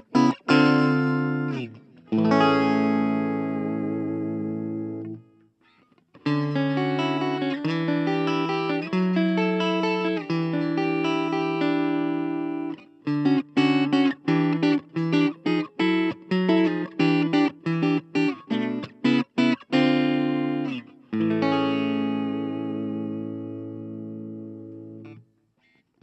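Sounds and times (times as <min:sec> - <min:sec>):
clean electric guitar: 0:00.0 - 0:26.0.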